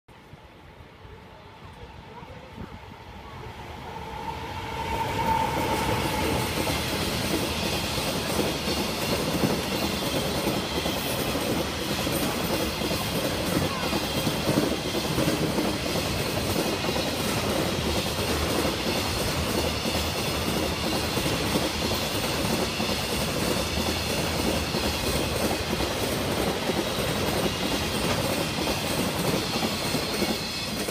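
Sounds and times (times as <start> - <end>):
freight train passing: 0.1 - 30.9.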